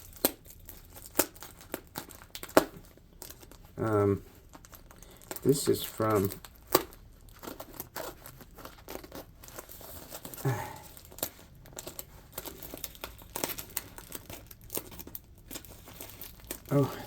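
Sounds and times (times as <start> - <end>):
packaging crinkling and tearing: 0.0 - 17.0.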